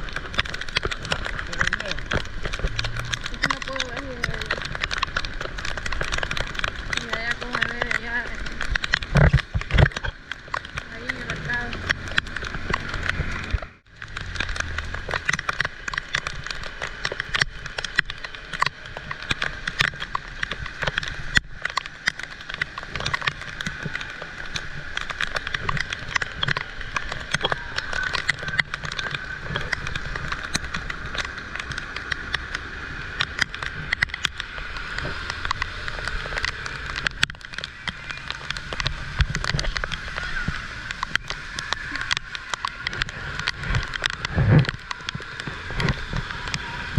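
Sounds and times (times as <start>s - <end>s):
heavy rain falling: 0.0s - 46.9s
raindrops hitting close: 0.0s - 46.9s.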